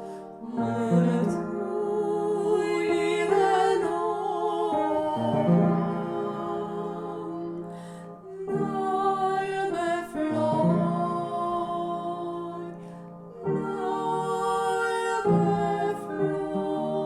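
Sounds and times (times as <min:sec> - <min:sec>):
voices singing a carol: 0:00.0 - 0:17.0.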